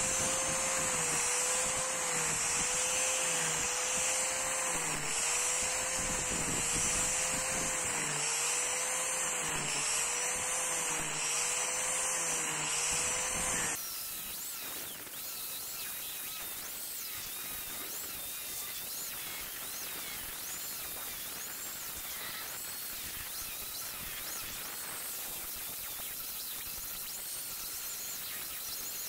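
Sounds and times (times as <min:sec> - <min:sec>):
angle grinder cutting wood: 0:00.0 - 0:29.0.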